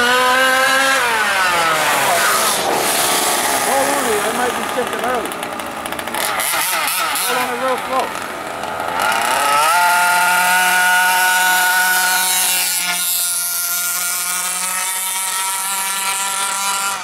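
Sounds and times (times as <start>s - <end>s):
small engine revving with buzzing whine: 0.0s - 17.0s.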